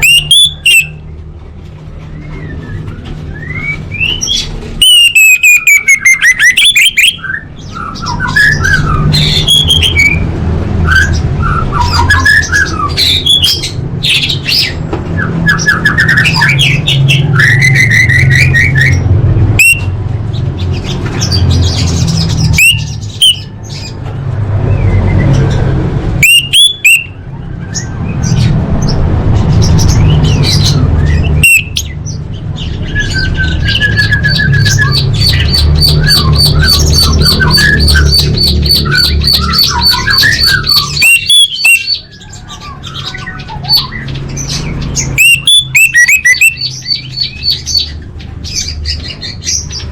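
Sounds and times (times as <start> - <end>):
thrush calling: 0.0 - 1.0, 2.4 - 20.0, 20.7 - 24.0, 24.9 - 49.9.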